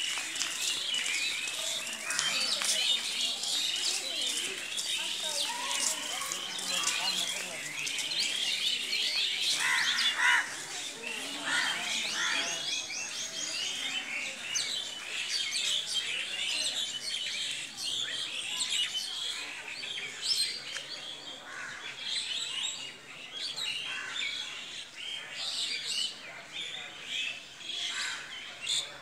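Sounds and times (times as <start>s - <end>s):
dense chorus of birds chirping: 0.0s - 29.0s.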